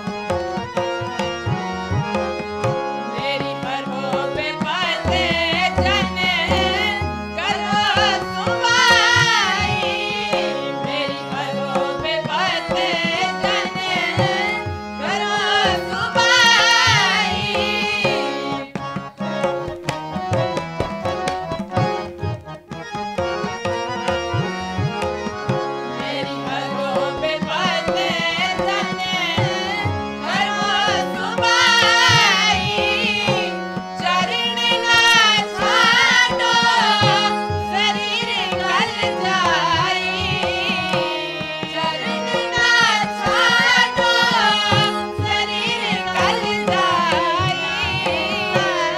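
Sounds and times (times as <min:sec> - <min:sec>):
harmonium chords: 0:00.0 - 0:48.9
tabla rhythm: 0:00.0 - 0:48.9
voices singing: 0:00.0 - 0:48.9.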